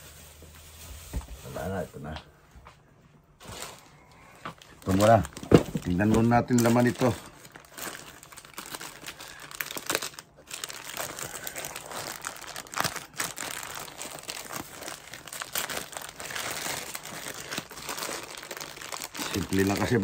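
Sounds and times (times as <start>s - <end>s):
plastic wrapping crinkling: 0.0s - 2.2s, 3.4s - 20.0s.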